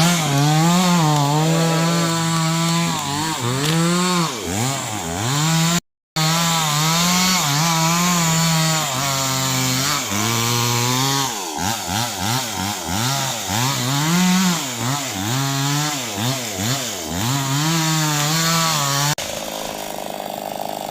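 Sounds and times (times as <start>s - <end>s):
chainsaw cutting wood: 0.0s - 20.9s.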